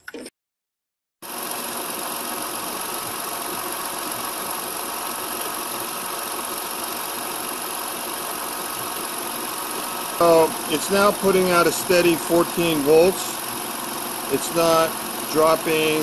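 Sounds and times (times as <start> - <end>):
car engine idling: 1.3 - 16.0.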